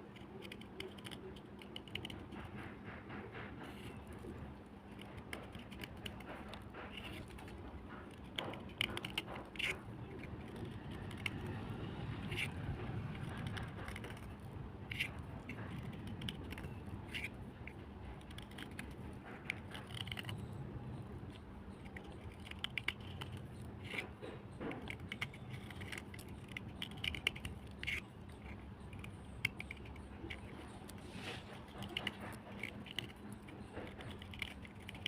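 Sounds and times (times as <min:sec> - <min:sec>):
hard cubes crunching and clicking: 0:00.0 - 0:02.6, 0:03.6 - 0:35.0
low steady rumble: 0:00.0 - 0:35.0.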